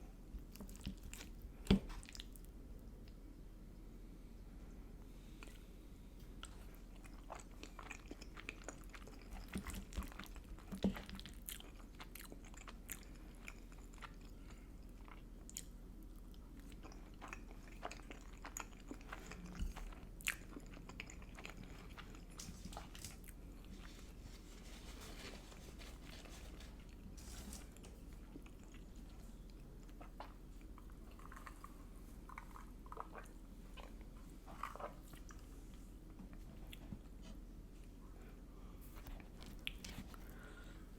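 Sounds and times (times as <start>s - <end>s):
person chewing food: 0.4s - 3.2s, 5.4s - 38.0s, 38.9s - 40.7s.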